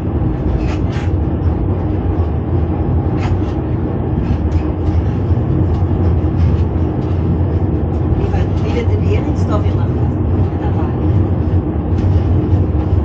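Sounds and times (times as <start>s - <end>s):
low hum: 0.0s - 13.0s
rumble of wheels on rail: 0.0s - 13.0s.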